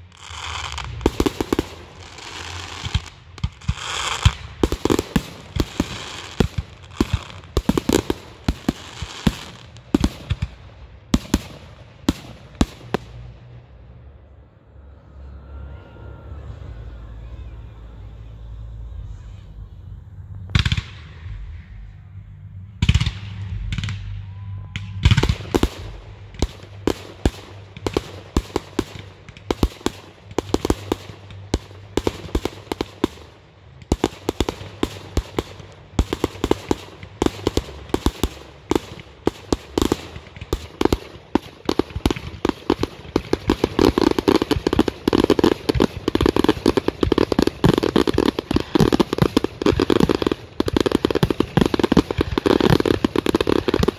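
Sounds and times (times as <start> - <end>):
firework bangs and crackling: 0.0 - 14.1, 20.4 - 21.7, 22.8 - 53.9.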